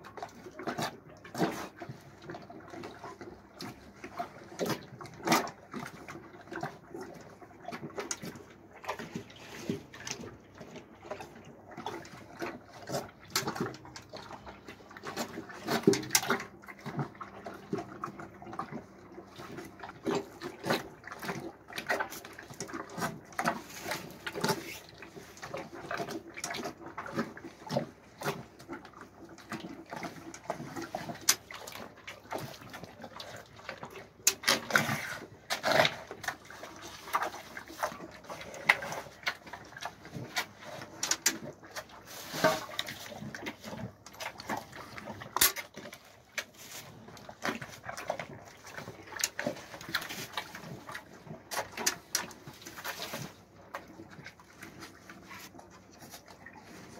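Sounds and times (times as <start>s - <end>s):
cows slurping liquid feed: 0.0s - 56.9s
splashes: 0.0s - 56.9s.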